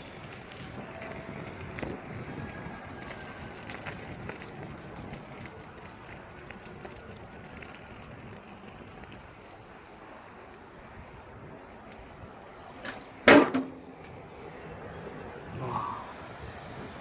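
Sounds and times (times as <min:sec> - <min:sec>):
tyres rolling on gravel: 0:00.0 - 0:17.0.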